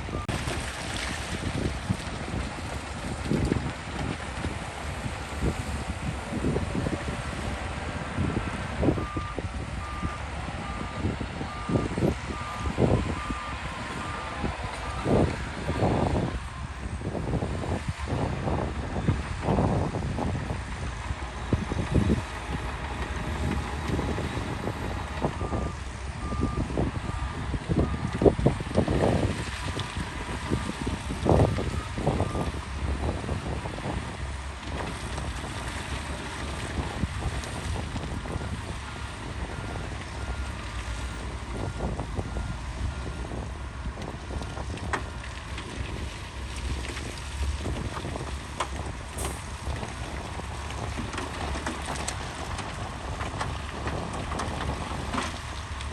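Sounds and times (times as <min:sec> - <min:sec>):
heavy machinery rumbling: 0:00.0 - 0:55.9
wind on microphone: 0:00.0 - 0:55.9.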